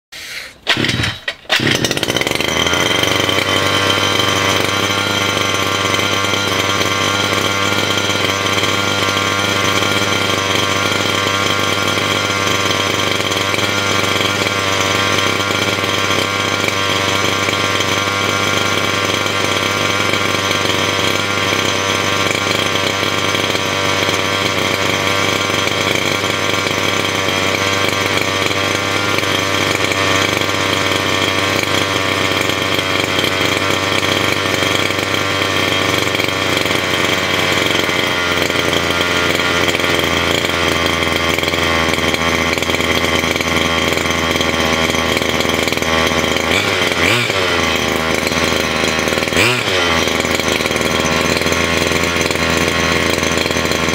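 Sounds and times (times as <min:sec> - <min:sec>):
small two-stroke engine running: 0:00.2 - 0:53.9.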